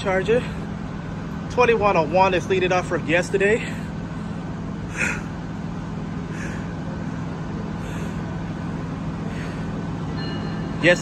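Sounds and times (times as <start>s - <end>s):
traffic and machinery rumble: 0.0s - 11.0s.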